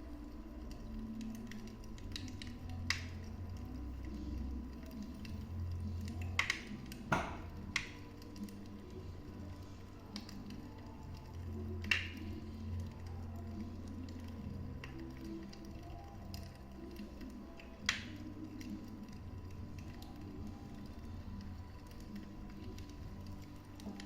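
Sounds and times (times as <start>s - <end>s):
low rumble of flames: 0.0s - 24.0s
fire crackles and pops: 0.1s - 24.0s.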